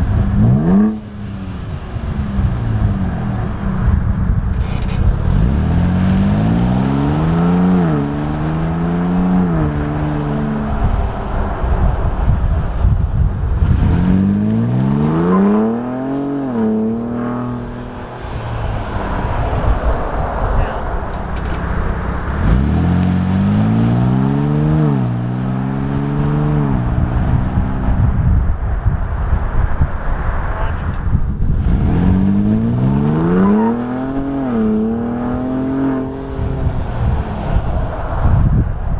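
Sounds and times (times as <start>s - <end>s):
engine exhaust accelerating: 0.0s - 38.9s.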